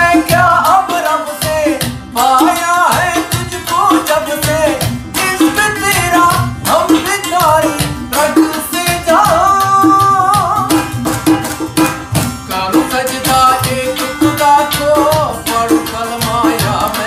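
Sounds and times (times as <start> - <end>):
person singing: 0.0 - 10.9, 12.5 - 17.0
plucked strings: 0.0 - 17.0
steady drum beat: 0.0 - 17.0.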